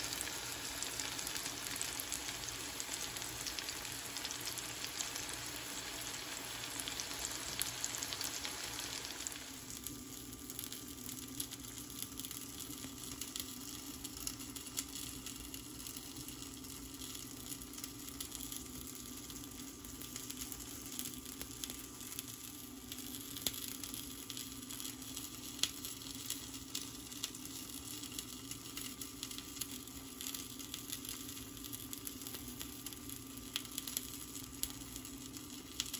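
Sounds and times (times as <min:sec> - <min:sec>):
eggplant frying in oil: 0:00.0 - 0:35.9.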